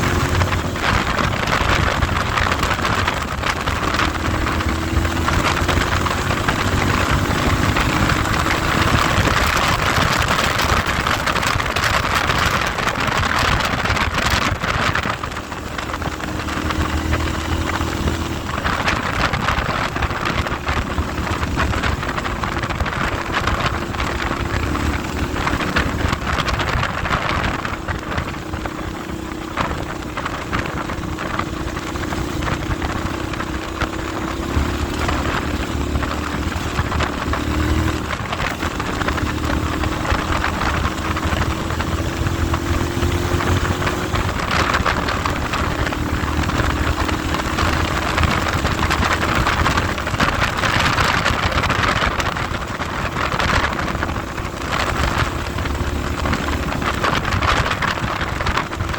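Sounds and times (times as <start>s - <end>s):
vehicle engine running: 0.0s - 58.9s
wind rushing over microphone: 0.0s - 58.9s.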